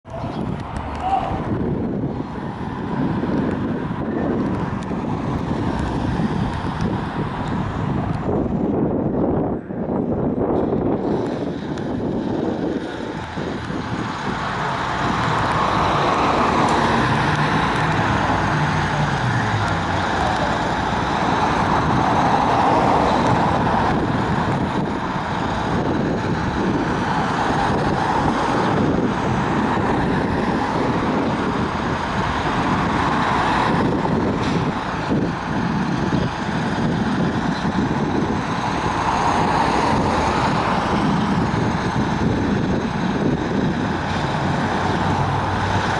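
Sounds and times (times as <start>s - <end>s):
street traffic passing: 0.0s - 45.9s
fire truck passing: 0.1s - 45.9s.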